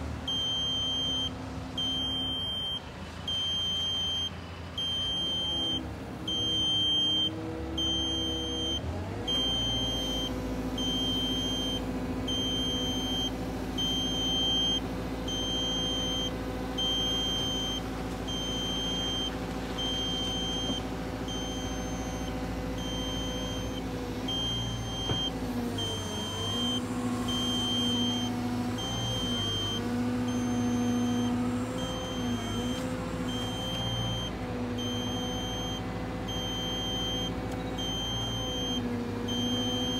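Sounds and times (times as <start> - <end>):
excavator diesel engine running: 0.0 - 39.9
electronic warning beeper: 0.3 - 39.9.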